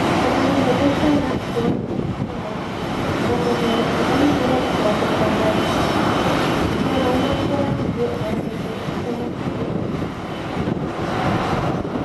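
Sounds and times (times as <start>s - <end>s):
turbine engine whine: 0.0s - 12.0s.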